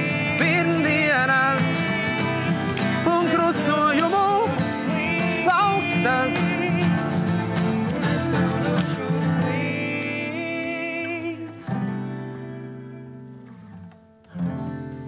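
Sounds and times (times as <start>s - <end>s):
acoustic guitars strummed: 0.0s - 15.0s.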